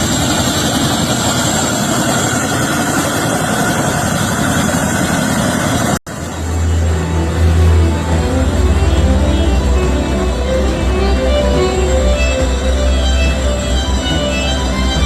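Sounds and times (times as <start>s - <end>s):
helicopter engines and rotors: 0.0s - 15.0s.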